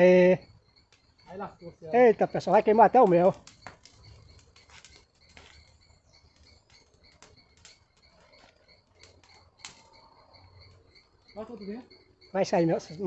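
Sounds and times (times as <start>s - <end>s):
faint high chirping: 0.0s - 13.0s
straw torch crackling: 0.0s - 13.0s.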